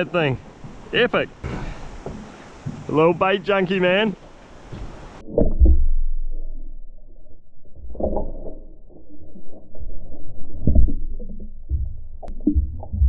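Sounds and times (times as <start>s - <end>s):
muffled underwater sloshing: 0.4s - 13.0s.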